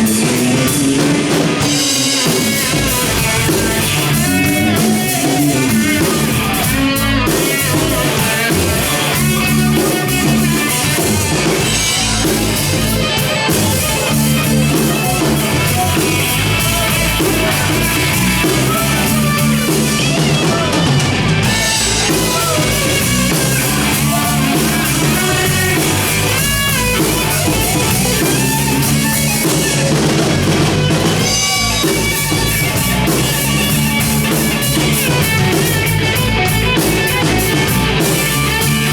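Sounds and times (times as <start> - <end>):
bass: 0.0 - 38.9
drum kit: 0.0 - 38.9
guitars: 0.0 - 38.9.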